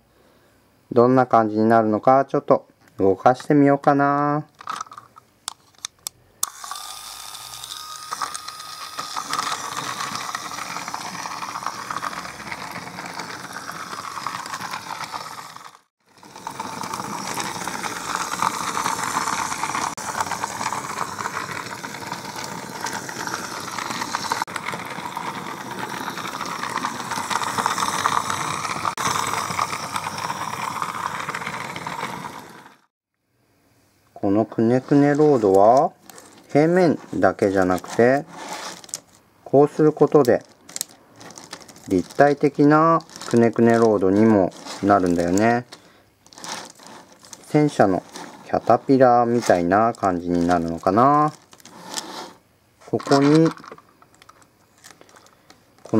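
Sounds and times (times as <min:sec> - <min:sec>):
toy motor whirring and clicking: 0:04.6 - 0:32.9, 0:34.8 - 0:39.2, 0:39.8 - 0:55.9.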